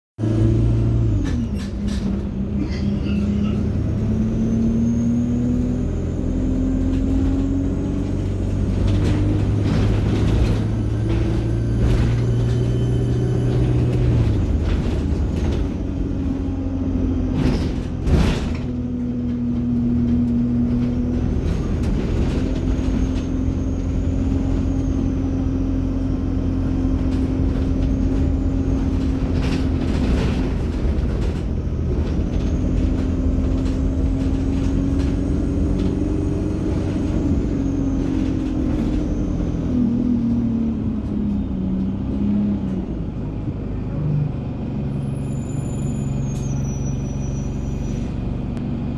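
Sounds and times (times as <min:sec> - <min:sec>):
bus diesel engine changing gears: 0:00.2 - 0:48.9.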